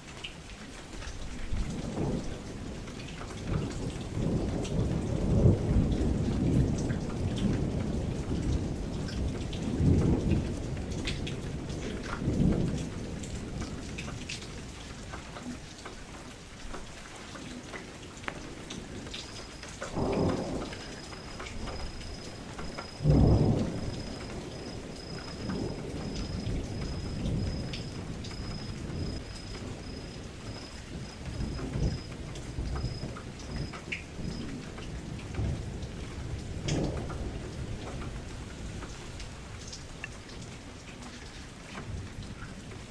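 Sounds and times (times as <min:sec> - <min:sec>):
steady rain falling: 0:00.0 - 0:42.9
rolling thunder rumbles: 0:01.5 - 0:15.8, 0:17.6 - 0:40.6.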